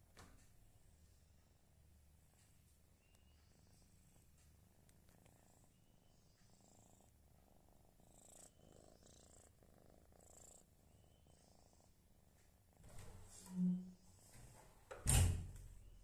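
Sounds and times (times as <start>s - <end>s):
cat purring faintly: 0.0s - 14.3s.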